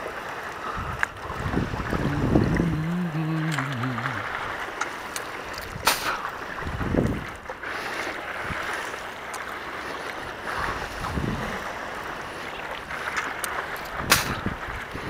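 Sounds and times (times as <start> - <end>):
paddle splashing in water: 0.0 - 15.0
wind buffeting microphone: 0.6 - 7.6, 8.2 - 8.9, 10.1 - 15.0.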